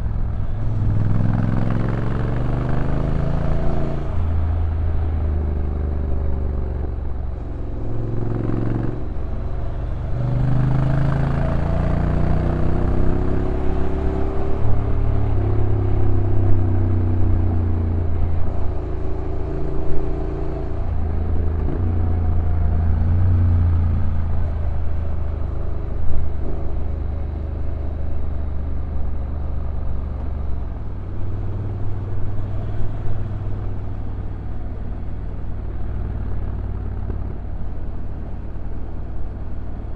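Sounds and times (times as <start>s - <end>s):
rush of air and road: 0.0s - 39.9s.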